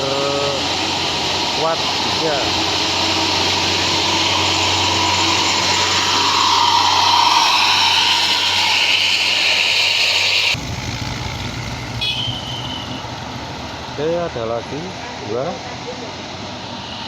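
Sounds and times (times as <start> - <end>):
bus engine working hard with whine: 0.0 - 17.0
quieter engine sound: 0.0 - 17.0.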